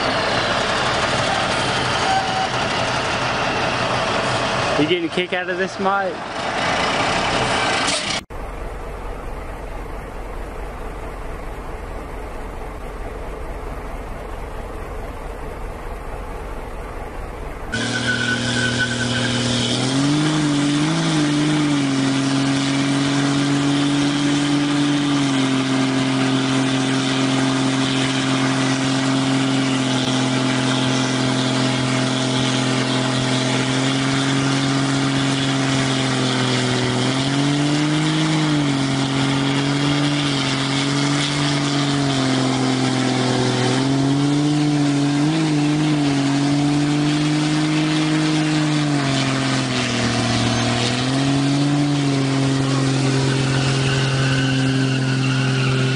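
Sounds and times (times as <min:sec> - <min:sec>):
spinning tyres hissing: 0:00.0 - 0:55.9
truck engine at high revs: 0:00.0 - 0:55.9.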